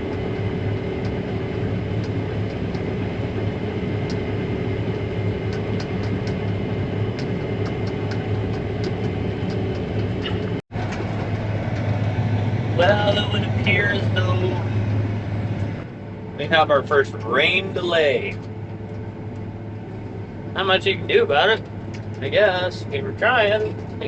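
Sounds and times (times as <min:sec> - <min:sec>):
heavy machinery droning: 0:00.0 - 0:24.0.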